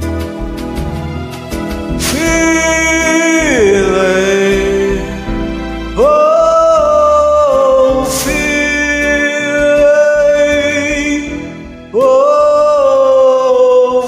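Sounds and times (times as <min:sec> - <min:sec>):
karaoke backing track: 0:00.0 - 0:14.0
man singing long notes: 0:02.0 - 0:14.0.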